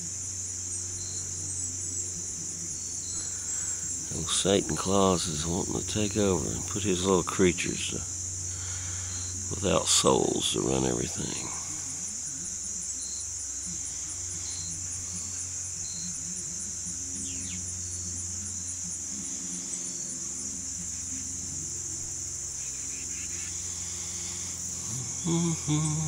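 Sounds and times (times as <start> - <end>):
faint low hum: 0.0 - 26.0
insects trilling: 0.0 - 26.0.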